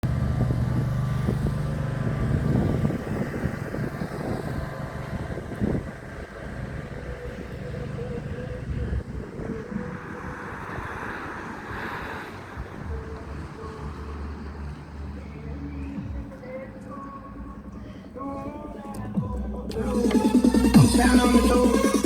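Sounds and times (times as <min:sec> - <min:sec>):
car engine running: 0:00.0 - 0:10.3, 0:12.5 - 0:22.0.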